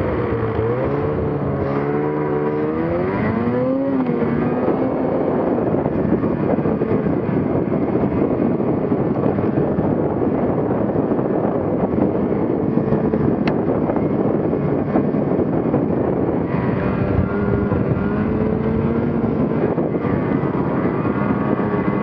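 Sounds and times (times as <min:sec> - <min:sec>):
snowmobile engine running: 0:00.0 - 0:22.0
wind rushing over microphone: 0:00.0 - 0:22.0.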